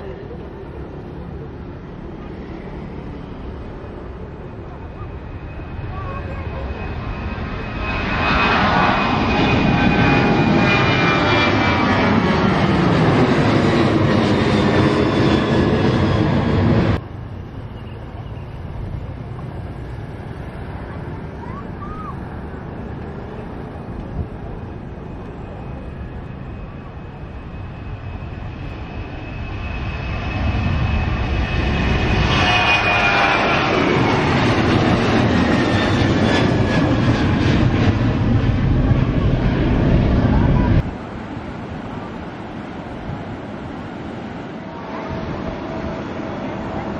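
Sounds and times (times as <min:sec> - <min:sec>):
distant jet engine noise: 0:00.0 - 0:46.9
jet plane climbing overhead: 0:00.0 - 0:46.9.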